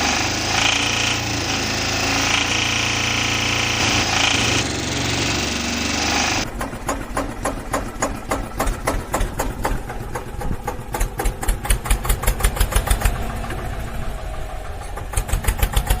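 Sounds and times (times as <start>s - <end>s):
engine chugging: 0.0s - 16.0s.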